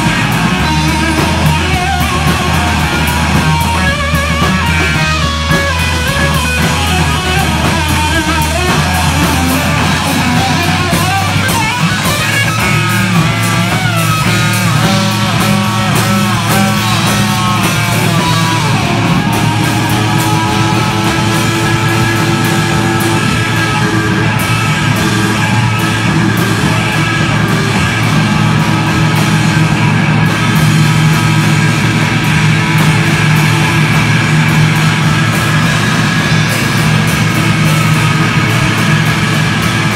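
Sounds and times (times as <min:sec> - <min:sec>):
hard rock band playing: 0:00.0 - 0:39.9
lead guitar line: 0:00.0 - 0:39.9.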